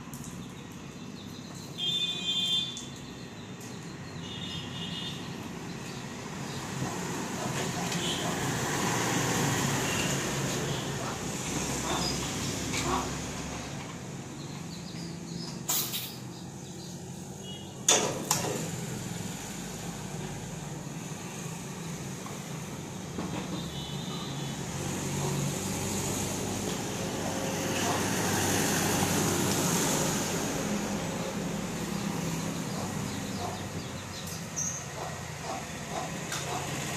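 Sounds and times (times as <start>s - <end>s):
road traffic: 0.0s - 36.9s.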